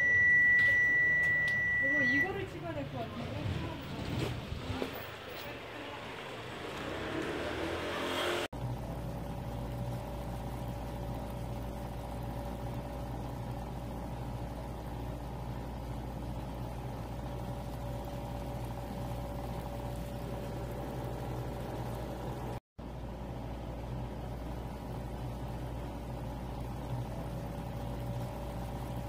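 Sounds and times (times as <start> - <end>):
low machine hum: 0.0 - 7.2, 8.5 - 29.0.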